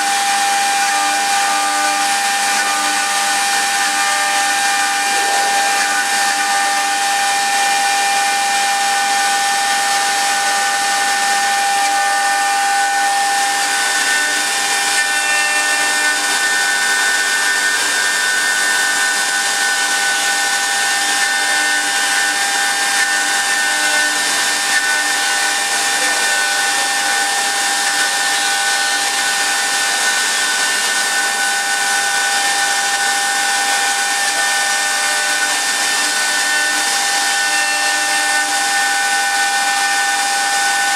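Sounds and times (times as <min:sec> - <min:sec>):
lathe spindle whine: 0:00.0 - 0:40.9.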